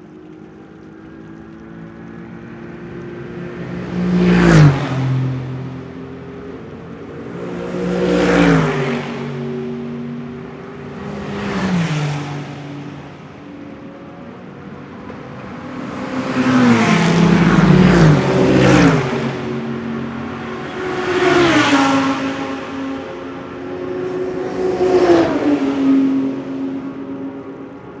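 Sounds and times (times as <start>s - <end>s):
race cars passing at speed: 0.0s - 28.0s.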